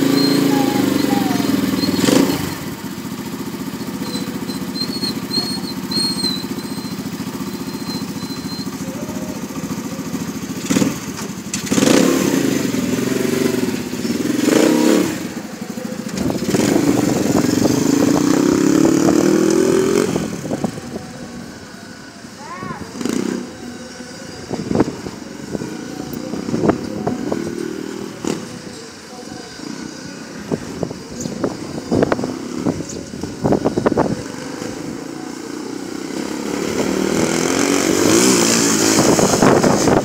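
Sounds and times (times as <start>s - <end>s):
small engine idling and revving: 0.0s - 40.0s.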